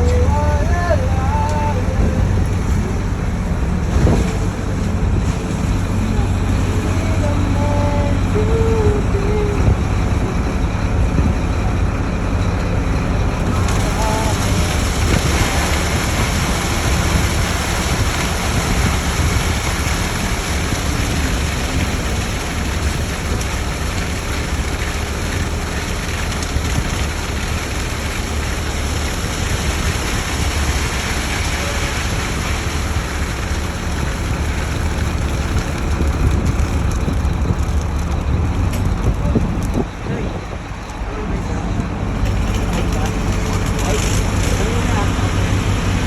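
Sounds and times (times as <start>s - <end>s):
truck diesel engine droning: 0.0s - 46.0s.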